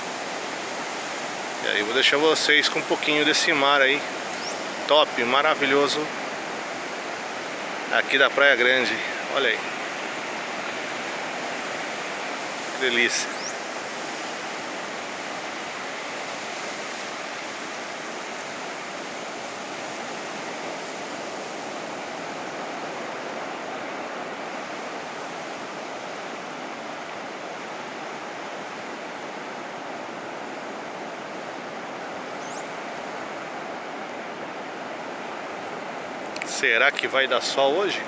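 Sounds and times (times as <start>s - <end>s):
sea surf washing on beach: 0.0s - 38.0s.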